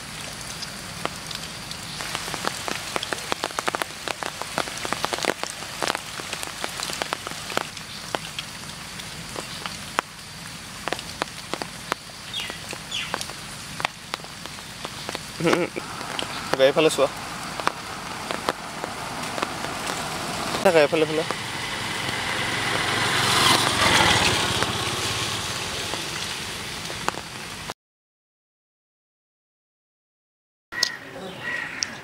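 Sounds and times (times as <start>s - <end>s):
rain on leaves and ground: 0.0s - 27.8s, 30.8s - 32.0s.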